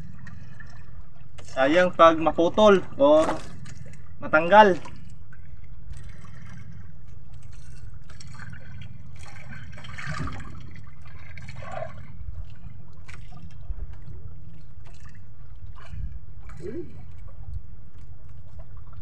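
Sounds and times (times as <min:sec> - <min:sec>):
steady low rumble: 0:00.0 - 0:19.0
water lapping against boat hull: 0:00.0 - 0:19.0.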